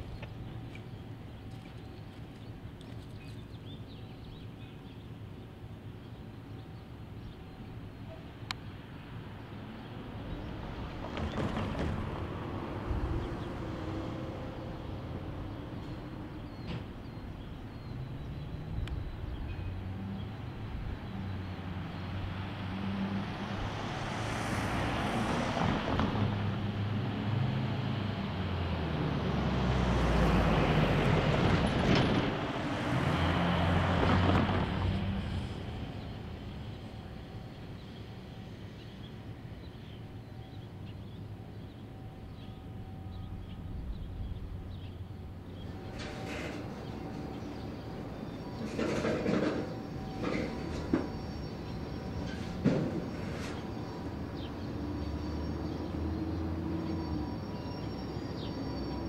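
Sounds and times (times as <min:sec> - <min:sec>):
diesel locomotive engine hum: 0:00.0 - 0:59.0.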